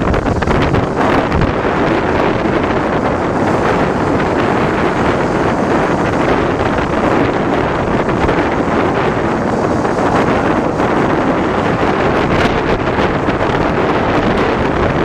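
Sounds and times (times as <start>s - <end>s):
motorcycle noise: 0.0s - 15.0s
wind buffeting microphone: 0.0s - 15.0s.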